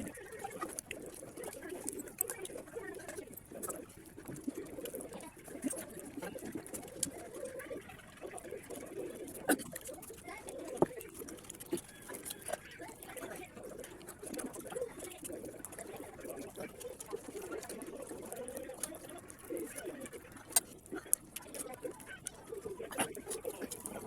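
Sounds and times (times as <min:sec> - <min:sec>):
chewing and wet mouth sounds: 0:00.0 - 0:24.0.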